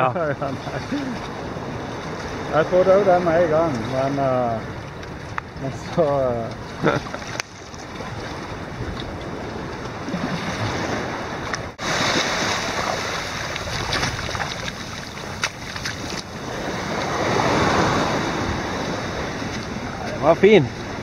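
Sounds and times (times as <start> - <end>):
waves washing: 0.0 - 21.0
wind buffeting microphone: 0.6 - 21.0.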